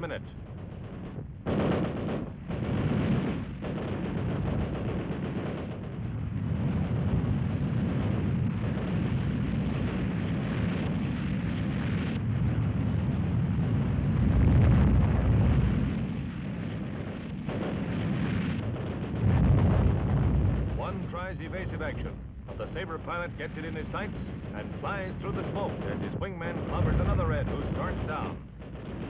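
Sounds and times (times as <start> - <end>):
low rumbling roar: 0.3 - 29.0.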